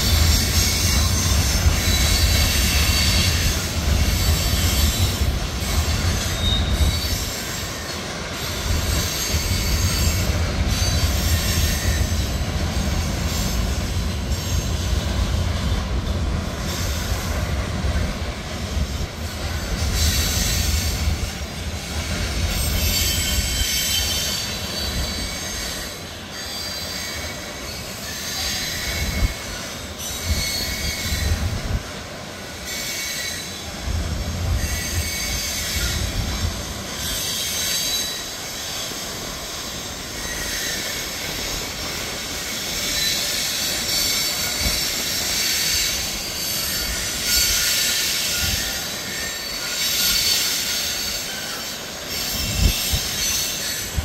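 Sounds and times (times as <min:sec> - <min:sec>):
steel wheel squeals: 0:00.0 - 0:18.1, 0:18.7 - 0:54.0
freight train wheels rumbling on rail: 0:00.0 - 0:54.0.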